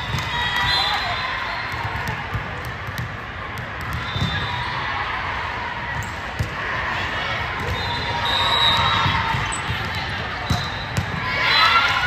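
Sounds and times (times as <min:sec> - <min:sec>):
spectators chattering and calling out: 0:00.0 - 0:12.0.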